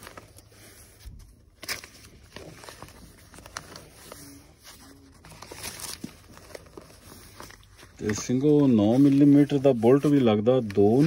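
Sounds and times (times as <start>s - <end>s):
books rustling: 0.0s - 11.0s.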